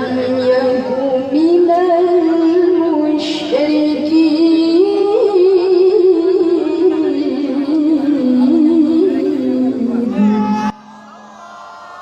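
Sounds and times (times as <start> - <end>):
girl reciting melodically: 0.0 - 10.2.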